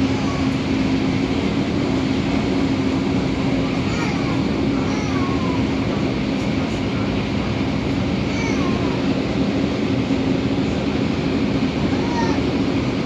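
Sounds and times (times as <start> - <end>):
steady train hum: 0.0 - 13.0
wheels rumbling on rail: 0.0 - 13.0.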